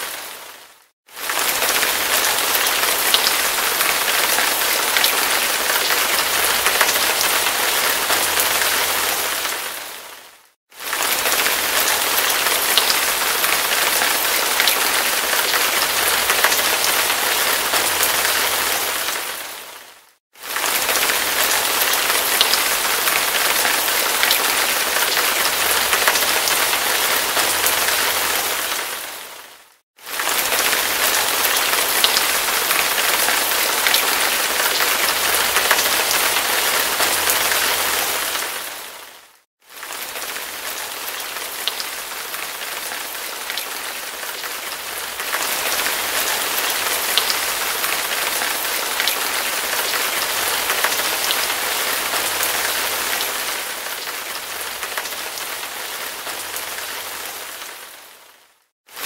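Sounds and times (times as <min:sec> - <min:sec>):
hard rain falling: 0:00.0 - 0:59.0.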